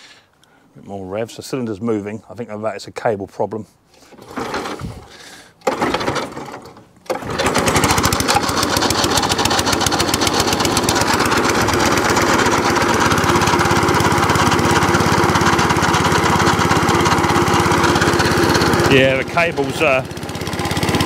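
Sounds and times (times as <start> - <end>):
lawnmower engine running: 4.0 - 21.0.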